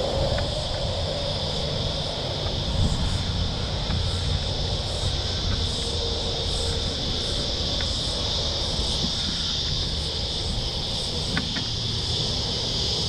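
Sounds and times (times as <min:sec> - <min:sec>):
high-pitched insect drone: 0:00.0 - 0:13.0
wind rumbling on microphone: 0:00.0 - 0:13.0.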